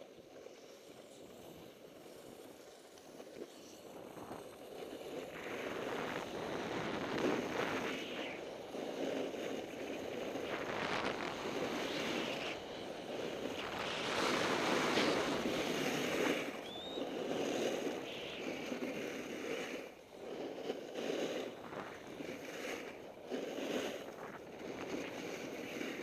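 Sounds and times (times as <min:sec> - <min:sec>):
skis carving packed snow: 0:00.0 - 0:26.0
wind rushing over microphone: 0:04.0 - 0:26.0.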